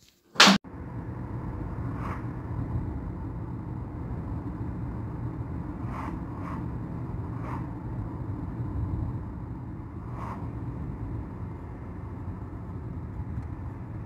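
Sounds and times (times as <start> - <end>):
car interior engine and tyre drone: 0.6 - 14.0.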